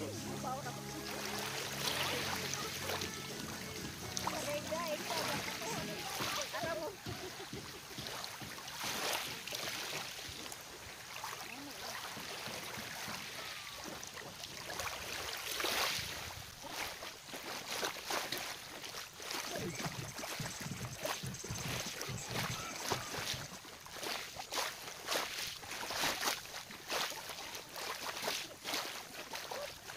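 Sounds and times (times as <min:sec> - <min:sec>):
small waves lapping on pebbles: 0:00.0 - 0:29.9.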